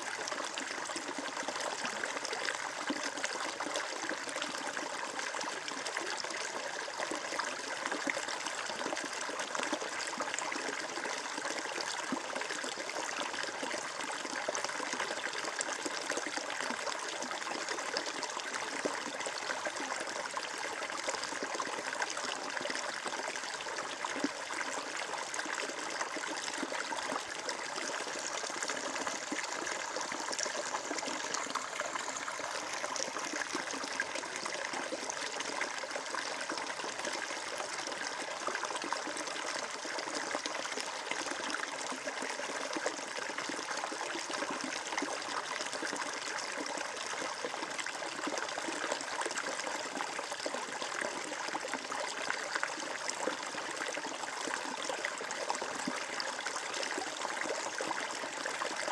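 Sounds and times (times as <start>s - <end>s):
water flowing and trickling: 0.0s - 58.9s.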